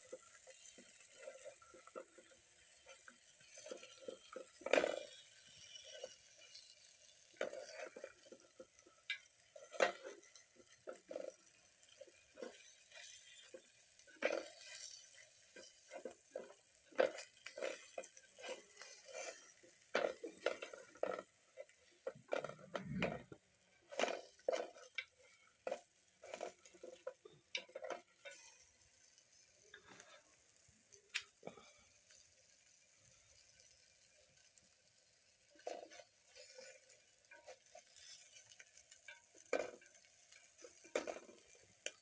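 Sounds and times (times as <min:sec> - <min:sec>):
oil sizzling: 0:00.0 - 0:42.0.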